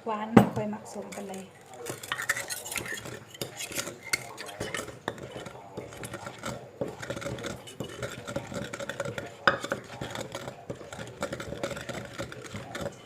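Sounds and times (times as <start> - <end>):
spoon scraping and clinking: 0.9 - 13.0
pestle pounding in a mortar: 1.8 - 13.0.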